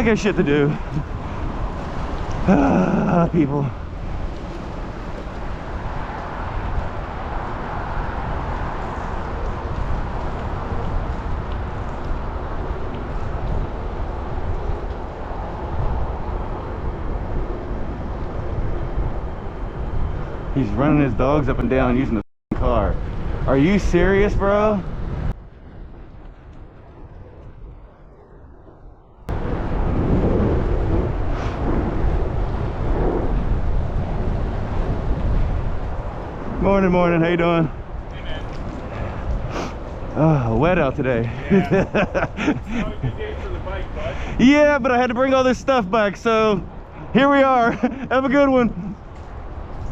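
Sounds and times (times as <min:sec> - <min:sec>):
bicycle tyres on wet road: 0:00.0 - 0:20.8, 0:22.6 - 0:28.2, 0:29.0 - 0:49.9
rushing wind: 0:00.0 - 0:49.9.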